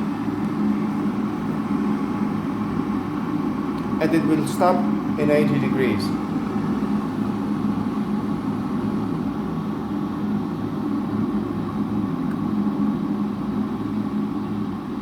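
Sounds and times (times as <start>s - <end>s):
electric kettle heating water: 0.0s - 15.0s.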